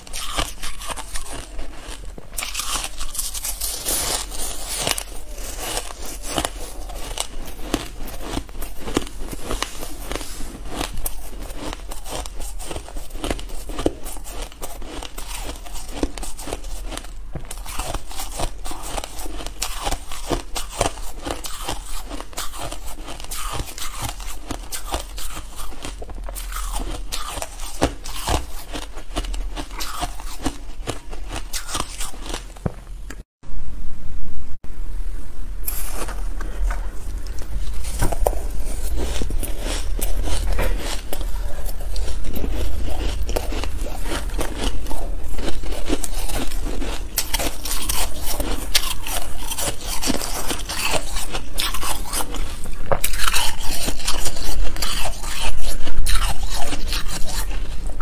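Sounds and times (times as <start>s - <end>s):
chewing crunchy shaved ice: 0.0s - 32.6s, 35.7s - 58.0s.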